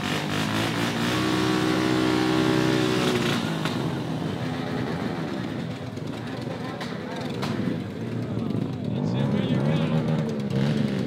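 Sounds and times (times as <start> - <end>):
mini bike engine revving: 0.0 - 11.0.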